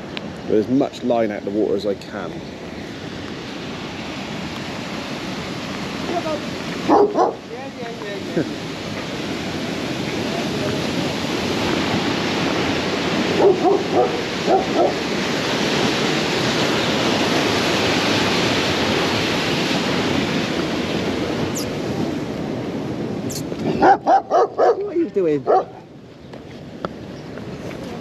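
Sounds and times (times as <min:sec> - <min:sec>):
loud rush of wind: 0:00.0 - 0:28.0.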